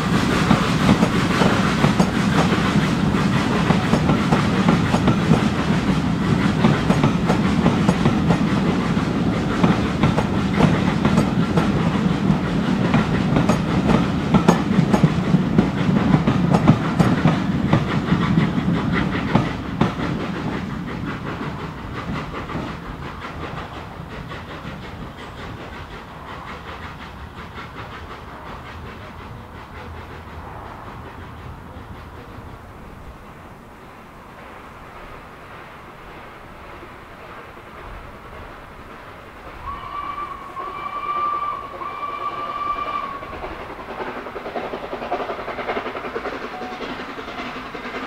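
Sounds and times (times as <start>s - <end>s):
train wheels clacking on rail joints: 0.0s - 33.6s, 34.4s - 48.0s
low train rumble: 0.0s - 48.0s.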